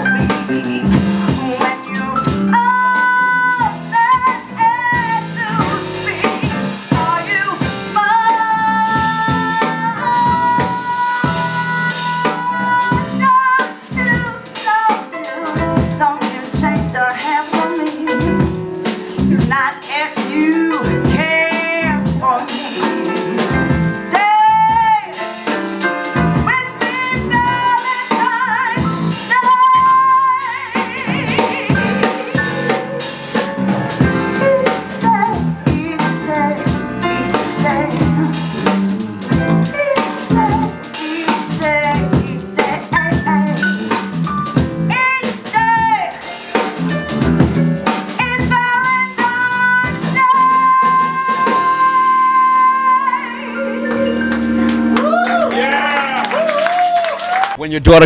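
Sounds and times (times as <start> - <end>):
drum kit: 0.0 - 58.0
live band music: 0.0 - 58.0.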